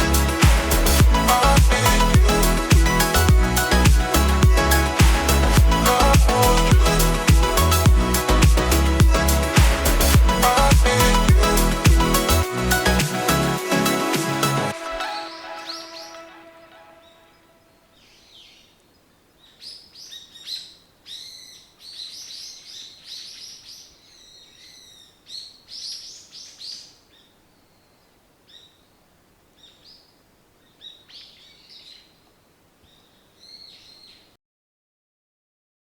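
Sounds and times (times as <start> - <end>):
birds chirping: 0.0 - 34.3.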